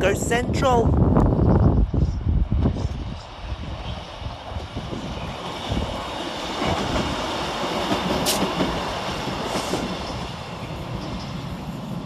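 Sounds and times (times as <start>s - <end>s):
train passing rumble: 0.0s - 12.0s.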